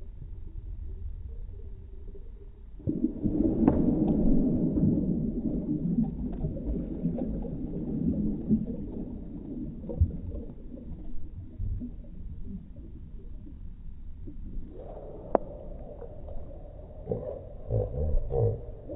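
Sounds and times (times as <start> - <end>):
deep rumble of bubbles: 0.0 - 18.9
muffled underwater splash: 0.0 - 18.9.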